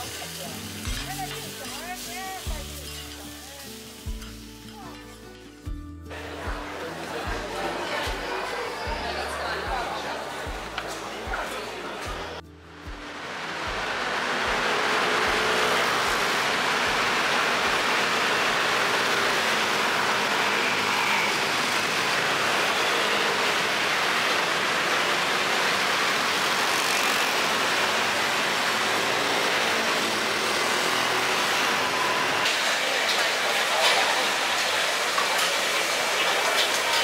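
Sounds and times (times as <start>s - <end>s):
traffic noise: 6.8s - 37.0s.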